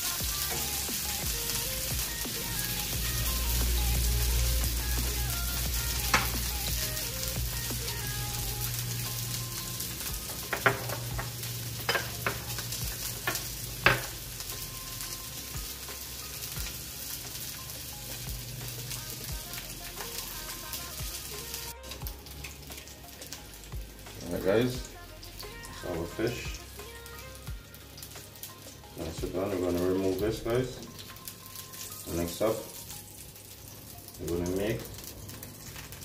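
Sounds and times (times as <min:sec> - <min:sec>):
fish sizzling in a frying pan: 0:00.0 - 0:36.0.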